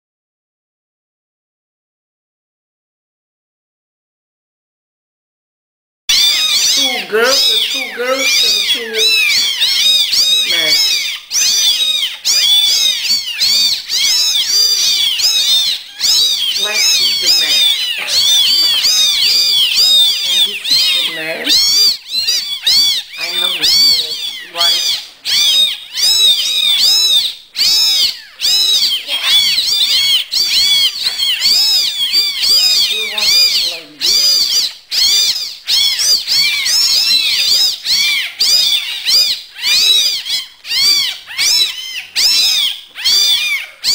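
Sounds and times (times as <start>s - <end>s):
kittens mewing: 6.1s - 43.9s.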